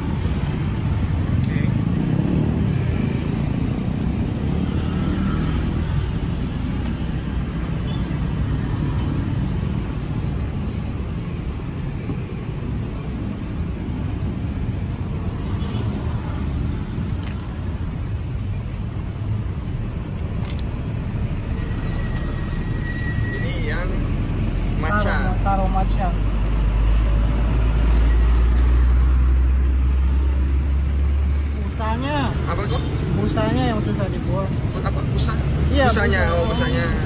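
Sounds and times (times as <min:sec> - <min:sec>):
low rumble of road traffic: 0:00.0 - 0:37.0.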